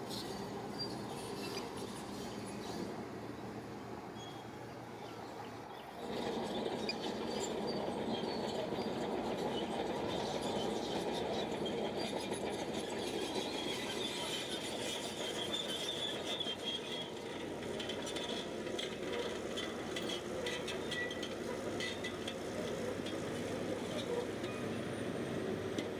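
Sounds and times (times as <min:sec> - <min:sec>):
bulldozer running: 0:00.0 - 0:25.9.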